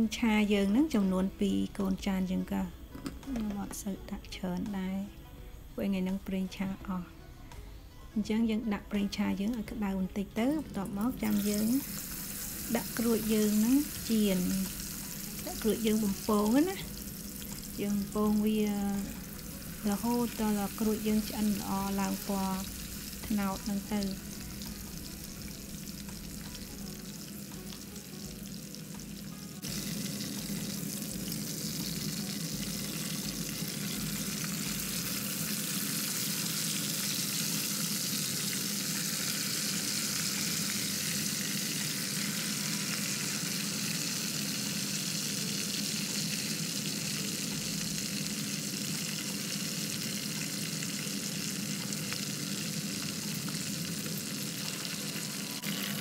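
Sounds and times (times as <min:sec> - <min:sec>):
oil sizzling while deep-frying: 0:08.2 - 0:56.0.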